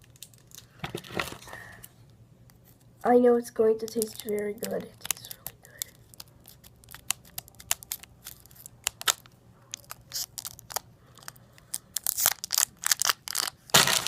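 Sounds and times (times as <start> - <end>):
hard candy crackling while eaten: 0.0 - 1.9, 3.7 - 14.0.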